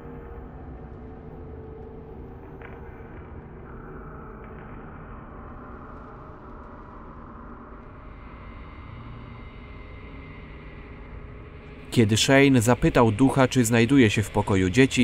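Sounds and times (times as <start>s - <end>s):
steady low drone: 0.0s - 15.0s.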